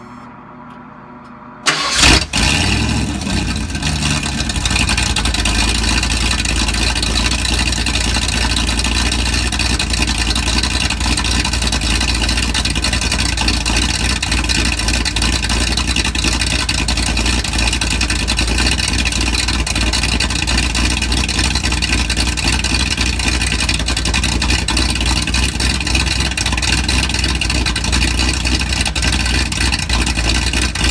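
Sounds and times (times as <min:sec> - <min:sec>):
vehicle engine cold-starting: 0:01.6 - 0:30.9.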